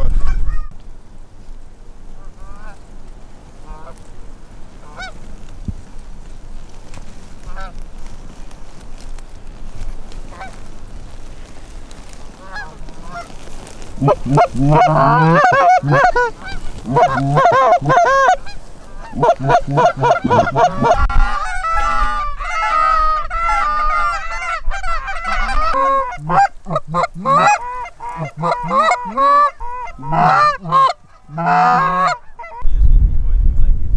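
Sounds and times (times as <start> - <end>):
geese honking and clucking: 0.0 - 0.8, 2.1 - 2.9, 3.5 - 5.4, 7.3 - 8.8, 9.7 - 32.6.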